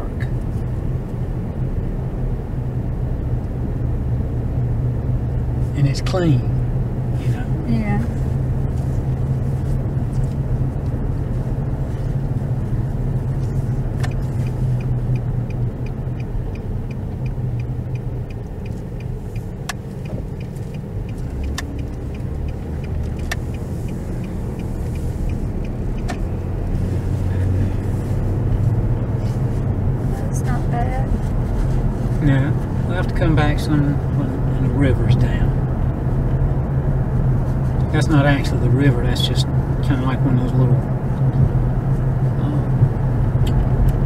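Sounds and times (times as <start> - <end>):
car engine and road rumble: 0.0 - 44.0
turn signal ticking: 0.0 - 44.0.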